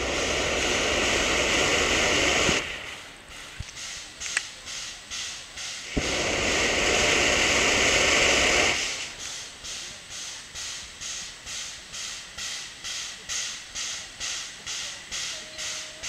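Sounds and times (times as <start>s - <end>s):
steam locomotive hissing steam: 0.0s - 16.0s.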